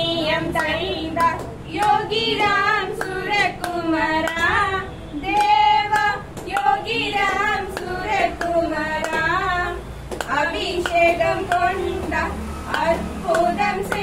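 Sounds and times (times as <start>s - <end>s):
girls singing in unison: 0.0s - 14.0s
steady hand claps: 0.2s - 14.0s.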